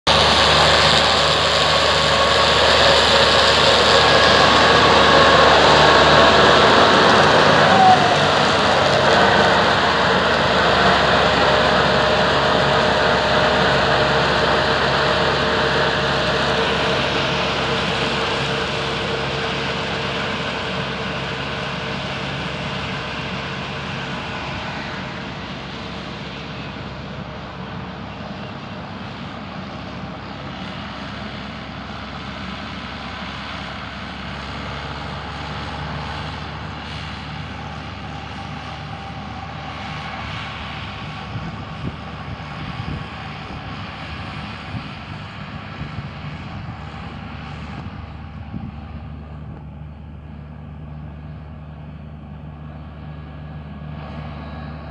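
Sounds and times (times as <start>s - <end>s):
tractor diesel engine running: 0.0s - 54.9s
mowers cutting grass: 0.1s - 54.9s.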